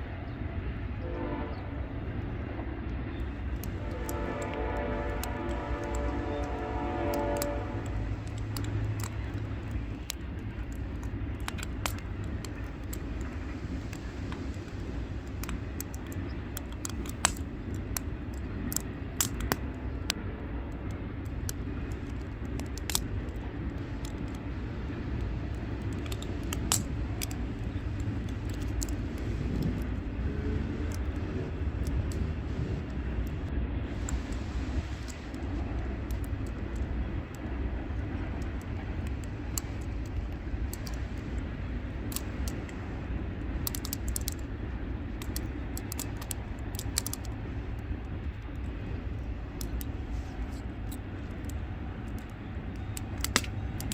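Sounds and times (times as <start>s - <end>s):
low rumble: 0.0s - 53.9s
firewood crackling and popping: 3.2s - 53.9s.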